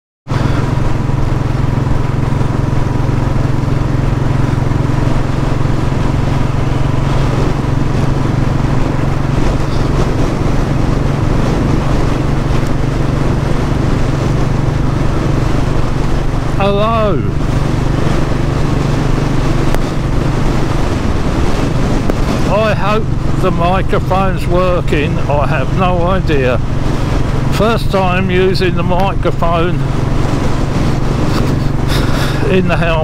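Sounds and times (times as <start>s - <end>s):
motorcycle engine cruising: 0.3s - 33.0s
wind rushing over microphone: 0.3s - 33.0s.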